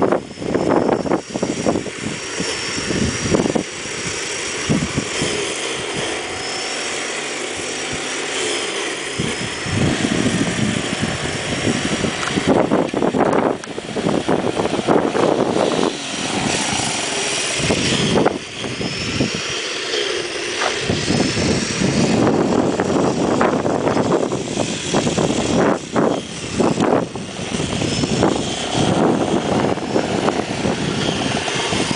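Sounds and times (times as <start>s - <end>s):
small engine revving: 0.0s - 31.9s.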